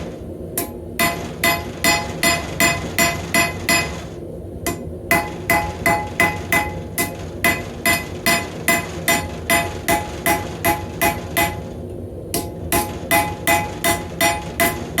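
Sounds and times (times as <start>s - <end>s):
anvil ringing: 0.6s - 4.0s, 4.7s - 11.6s, 12.4s - 14.8s
hammer striking steel on anvil: 0.6s - 4.0s, 4.7s - 11.7s, 12.3s - 15.0s.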